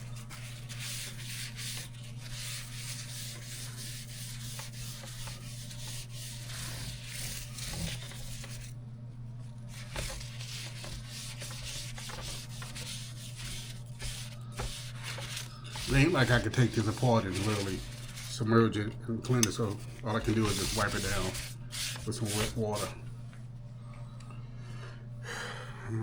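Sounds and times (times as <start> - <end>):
paper towel scrubbing grill plates: 0.0 - 8.8, 9.6 - 23.0.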